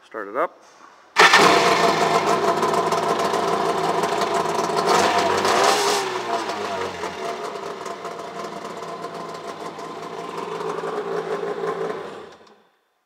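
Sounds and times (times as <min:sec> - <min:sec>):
jet ski engine idling: 0:01.2 - 0:12.4.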